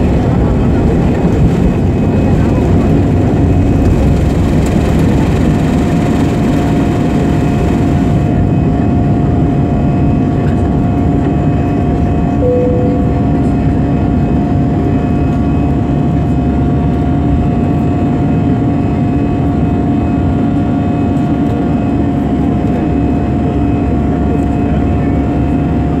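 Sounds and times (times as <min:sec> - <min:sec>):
jet engine roar and whine: 0:00.0 - 0:26.0.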